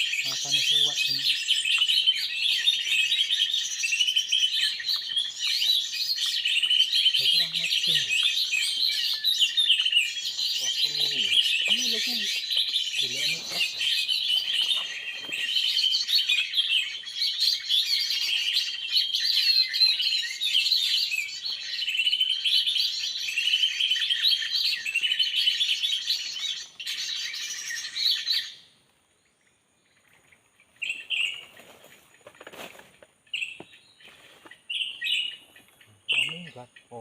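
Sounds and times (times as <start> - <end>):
small birds chirping and twittering: 0.0 - 37.0.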